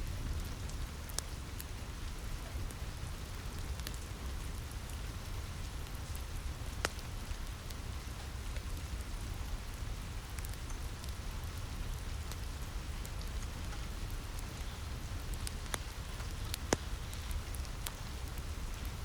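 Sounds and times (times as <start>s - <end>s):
rain on a roof: 0.0s - 19.0s
wood fire crackling: 0.0s - 19.0s.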